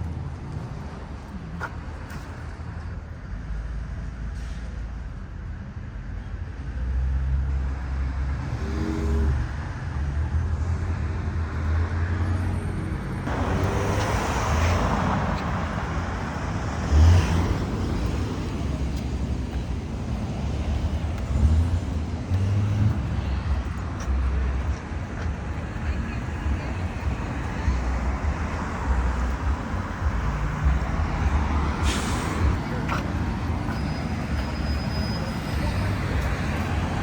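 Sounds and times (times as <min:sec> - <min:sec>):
low traffic rumble: 0:00.0 - 0:37.0
cars driving past: 0:06.6 - 0:37.0.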